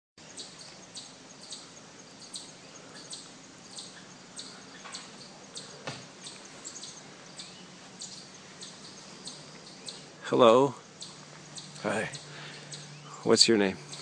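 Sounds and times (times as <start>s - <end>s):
bird chirping: 0.2s - 14.0s
faint outdoor background noise: 0.2s - 14.0s.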